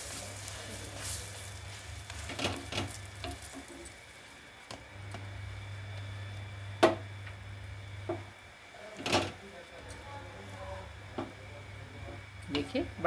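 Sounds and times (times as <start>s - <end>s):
butter sizzling on griddle: 0.0s - 13.0s.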